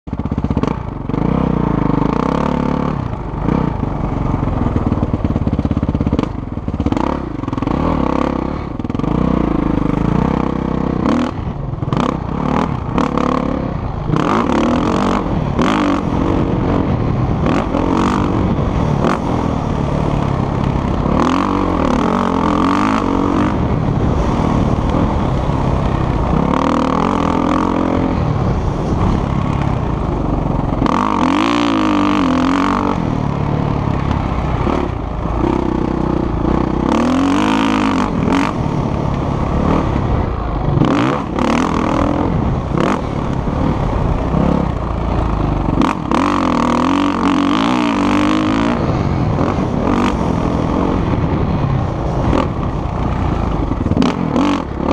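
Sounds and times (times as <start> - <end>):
dirt bike engine revving: 0.1 - 54.9.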